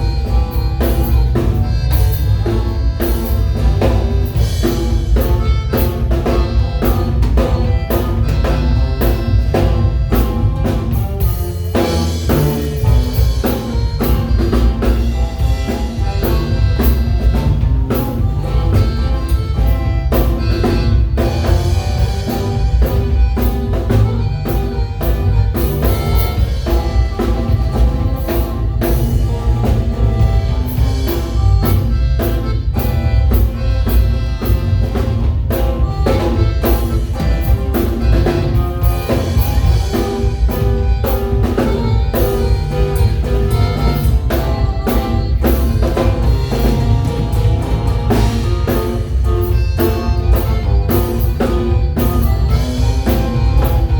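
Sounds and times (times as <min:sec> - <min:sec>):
band playing upbeat music: 0:00.0 - 0:53.9
bass guitar: 0:00.0 - 0:53.9
drum kit beat: 0:00.0 - 0:53.9.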